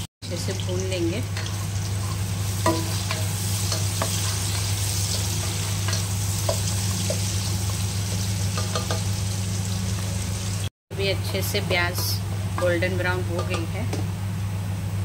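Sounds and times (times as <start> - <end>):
onions sizzling in hot oil: 0.0 - 14.8.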